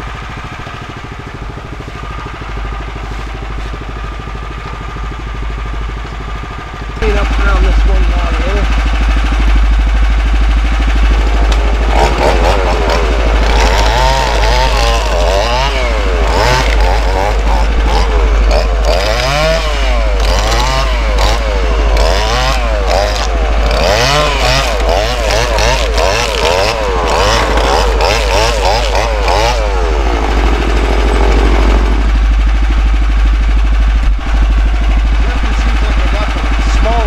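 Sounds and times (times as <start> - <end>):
chainsaw cutting log: 0.0 - 33.2.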